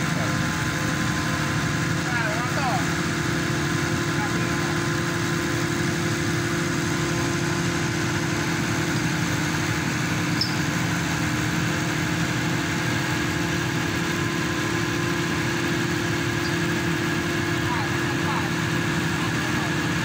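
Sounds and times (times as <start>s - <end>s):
pile driver engine droning: 0.0s - 20.0s.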